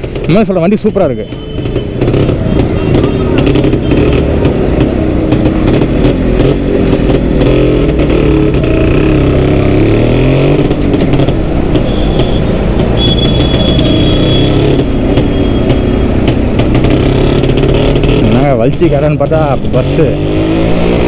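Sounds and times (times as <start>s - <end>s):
two-stroke motorcycle engine running: 0.0s - 0.6s, 1.3s - 19.7s.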